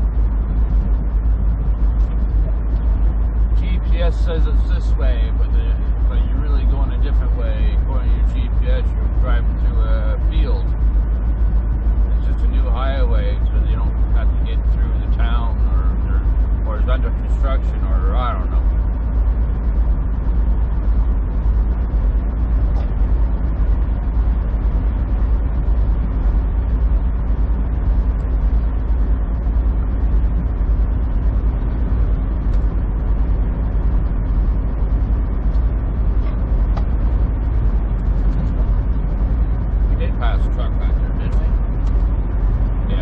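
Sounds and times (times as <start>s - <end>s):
truck engine droning: 0.0s - 43.0s
tyres on road: 0.0s - 43.0s.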